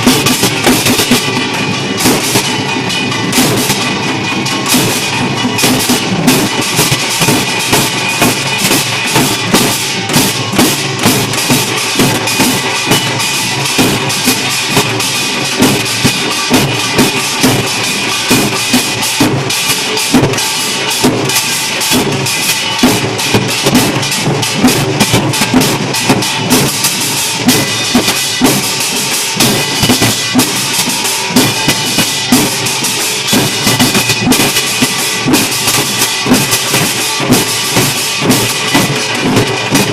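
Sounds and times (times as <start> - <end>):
percussion ensemble drumming: 0.0 - 39.9.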